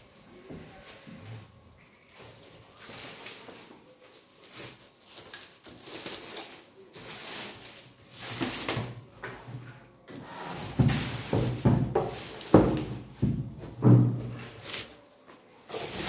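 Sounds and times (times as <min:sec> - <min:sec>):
plastic wrap crinkling: 0:00.9 - 0:09.2, 0:10.6 - 0:16.0.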